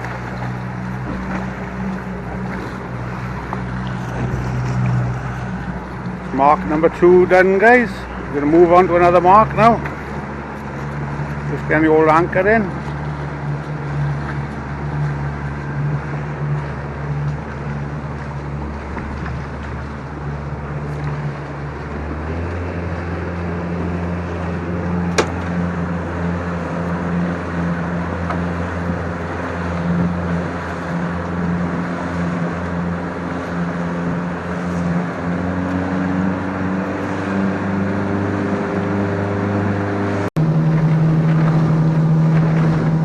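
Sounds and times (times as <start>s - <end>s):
boat engine running: 0.0s - 43.0s
water and hull noise: 0.0s - 43.0s.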